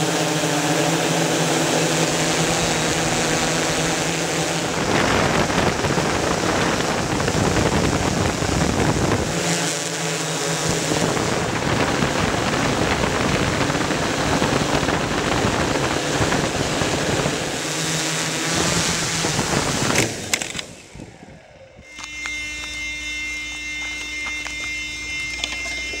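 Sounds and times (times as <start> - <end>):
steady tone: 0.0 - 19.9, 20.7 - 26.0
drone propeller and wind noise: 0.0 - 26.0
motor whine: 0.0 - 26.0.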